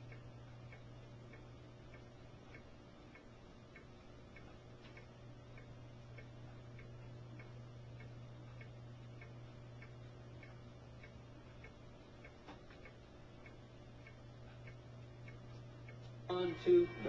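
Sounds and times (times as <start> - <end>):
faint regular ticking: 0.0 - 17.0
steady low hum: 0.0 - 17.0.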